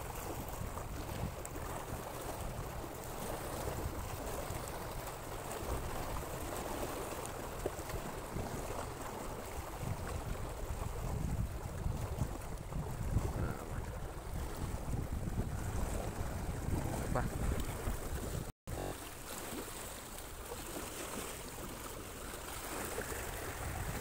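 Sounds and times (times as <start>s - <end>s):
water lapping against shore: 0.0s - 24.0s.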